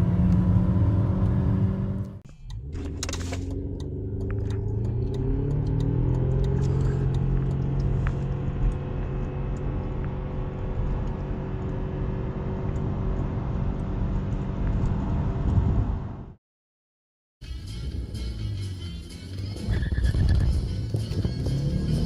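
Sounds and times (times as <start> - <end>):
car engine accelerating: 0.0 - 16.4, 17.8 - 22.0
road noise: 0.0 - 16.4, 17.4 - 22.0.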